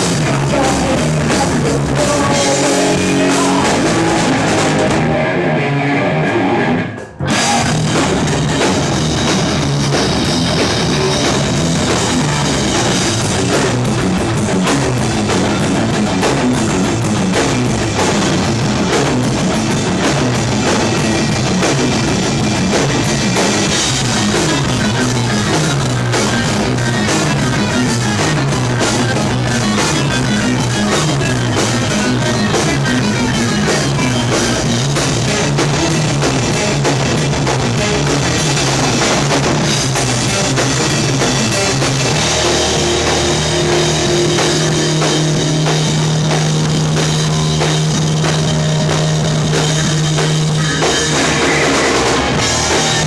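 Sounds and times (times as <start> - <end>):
bass guitar line: 0.0 - 53.0
rock band playing: 0.0 - 53.0.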